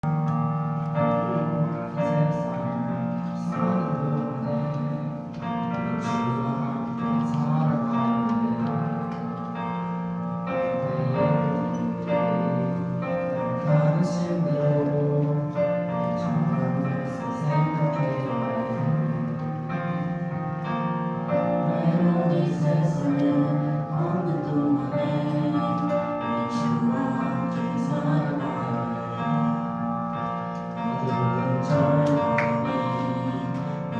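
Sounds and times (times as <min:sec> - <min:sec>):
worship music on piano and keyboard: 0:00.0 - 0:33.9.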